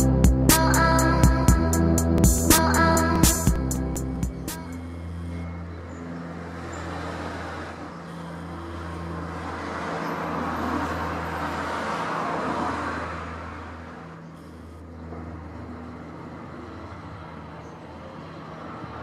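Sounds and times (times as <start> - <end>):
propeller hum: 0.0 - 19.0.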